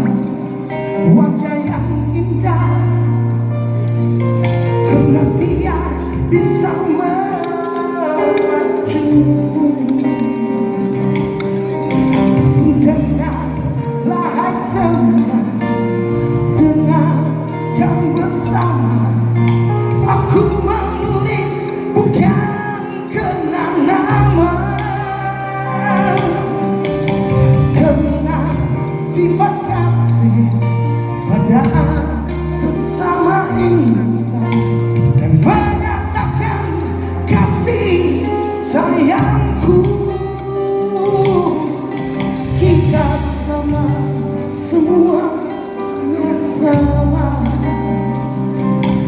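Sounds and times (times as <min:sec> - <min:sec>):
sustained bass notes: 0:00.0 - 0:06.8, 0:10.6 - 0:45.6
live band playing pop: 0:00.0 - 0:49.0
person singing lead vocals: 0:00.0 - 0:49.0.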